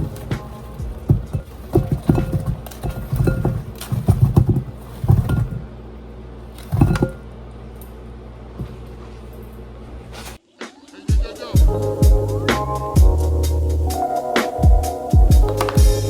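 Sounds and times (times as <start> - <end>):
steady low hum: 0.0 - 10.4, 11.2 - 16.0.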